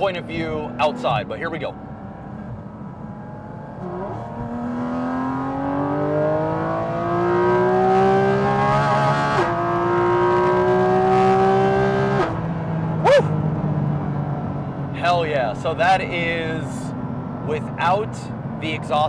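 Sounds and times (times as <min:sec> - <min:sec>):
car engine accelerating: 0:00.0 - 0:16.5.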